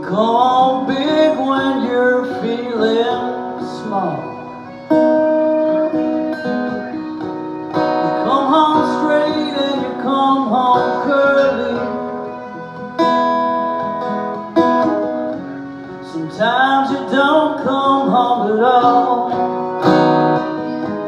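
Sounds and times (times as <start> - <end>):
acoustic guitar strumming: 0.0 - 21.0
fiddle melody with sliding notes: 0.0 - 21.0.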